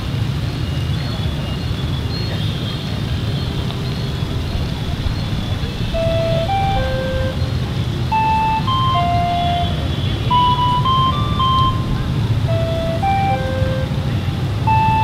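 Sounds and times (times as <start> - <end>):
street traffic rumble: 0.0 - 15.0
ice cream van jingle beeps: 2.1 - 15.0.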